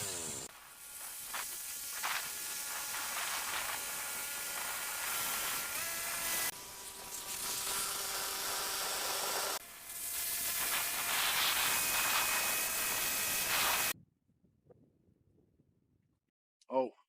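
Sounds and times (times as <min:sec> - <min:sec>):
sawmill cutting log: 0:00.0 - 0:14.0.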